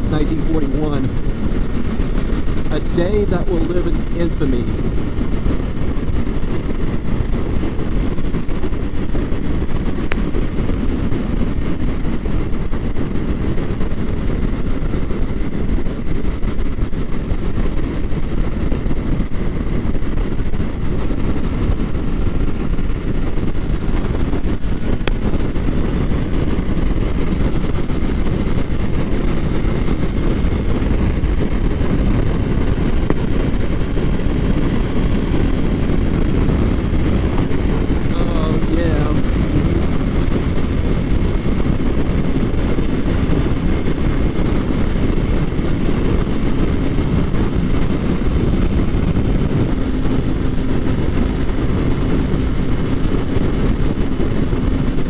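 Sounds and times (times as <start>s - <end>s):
motorcycle engine drone: 0.0s - 55.0s
wind and road noise: 0.0s - 55.0s.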